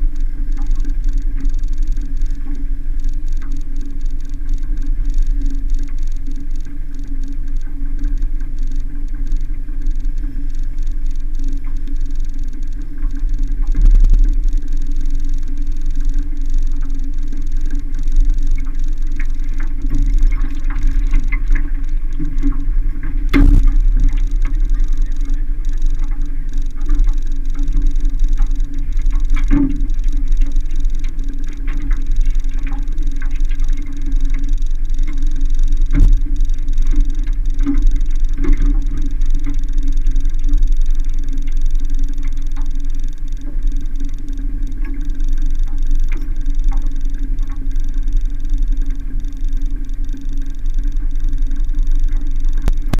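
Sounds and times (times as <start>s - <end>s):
low rumble and hum: 0.0s - 53.0s.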